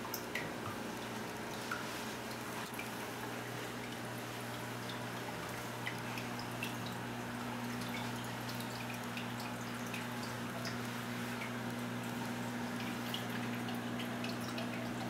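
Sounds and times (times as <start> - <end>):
steady low hum: 0.0 - 15.0
water dripping and trickling: 0.0 - 15.0.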